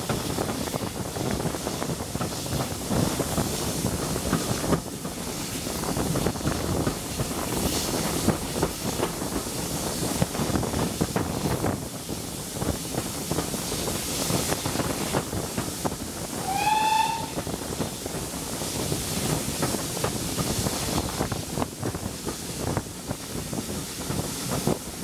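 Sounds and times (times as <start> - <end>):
train carriages rumbling and clattering: 0.0 - 25.0
wind buffeting microphone: 0.0 - 25.0.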